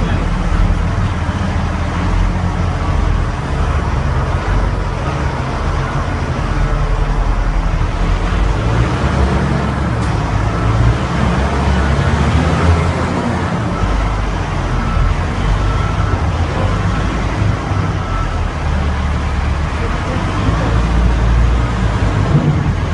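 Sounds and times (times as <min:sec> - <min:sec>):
diesel engine droning: 0:00.0 - 0:22.9.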